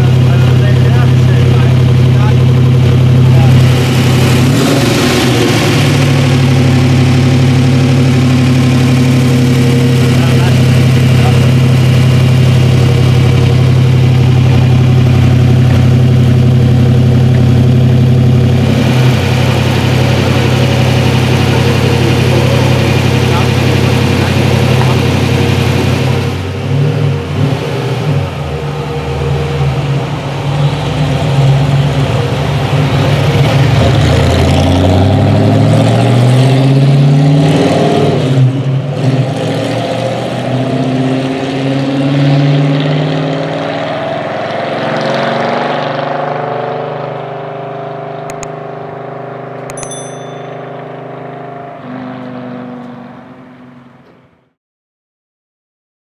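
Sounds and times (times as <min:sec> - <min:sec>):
car engine revving: 0:00.0 - 0:49.8.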